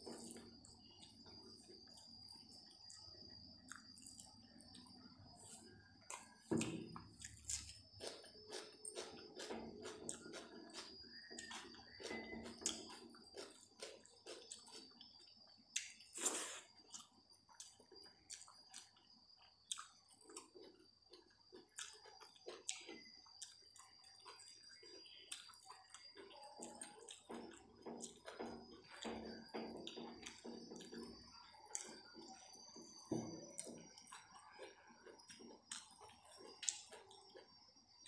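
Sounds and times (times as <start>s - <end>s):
chewing: 0.0s - 38.0s.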